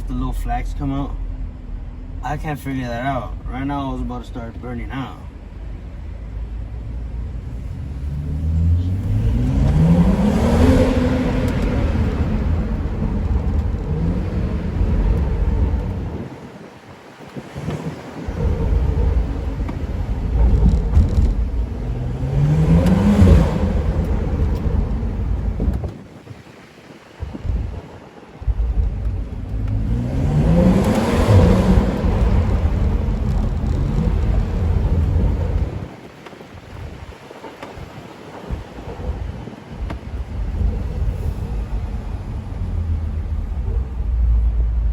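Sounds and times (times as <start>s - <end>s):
car engine accelerating hard: 0.0s - 26.1s, 27.2s - 44.9s.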